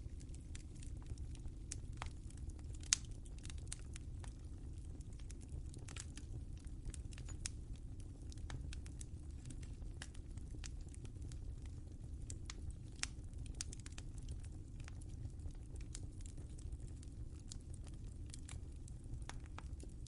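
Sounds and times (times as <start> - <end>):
low rumble of flames: 0.0 - 20.0
wood fire pops and snaps: 0.0 - 20.0.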